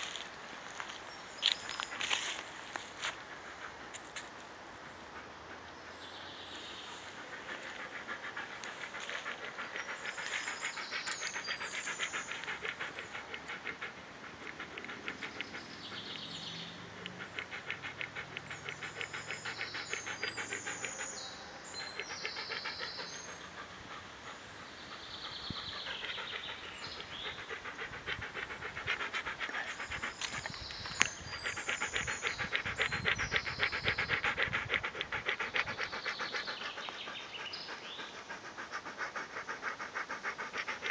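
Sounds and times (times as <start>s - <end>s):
dog panting rapidly: 6.9s - 40.9s.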